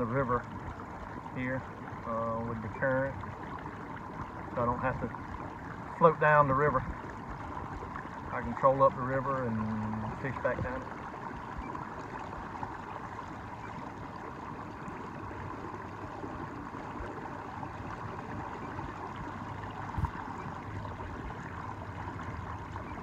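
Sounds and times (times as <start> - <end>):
water washing along kayak hull: 0.0 - 23.0.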